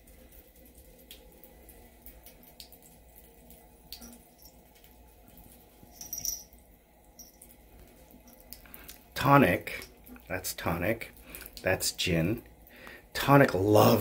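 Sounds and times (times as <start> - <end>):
water drips and splashes: 0.0 - 14.0
water running from sink tap: 0.0 - 14.0.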